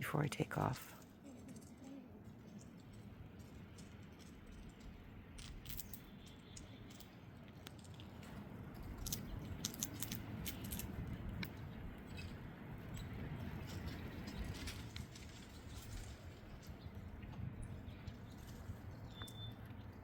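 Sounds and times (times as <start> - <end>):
squirrels gnawing on nuts: 0.7 - 20.0.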